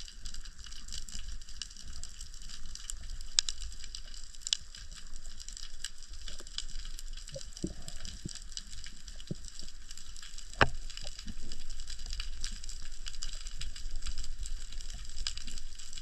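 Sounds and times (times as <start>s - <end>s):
crackle of small clicks: 0.0s - 16.0s
low rumble of water: 0.0s - 16.0s.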